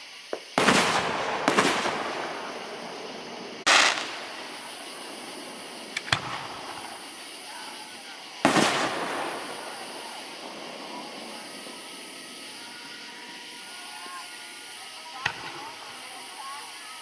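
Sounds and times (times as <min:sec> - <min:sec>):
fireworks bursting: 0:00.0 - 0:17.0
sharp firework cracks: 0:00.1 - 0:16.8.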